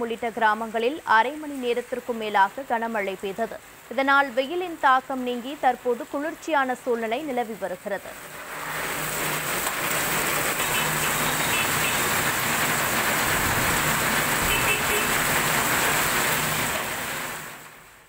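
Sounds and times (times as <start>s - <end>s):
heavy rain on flooded street: 0.0s - 6.4s, 8.1s - 18.0s.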